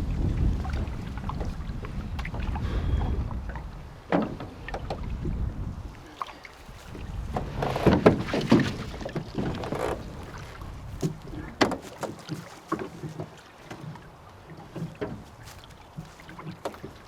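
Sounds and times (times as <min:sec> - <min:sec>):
water splashing around a boat: 0:00.0 - 0:17.0.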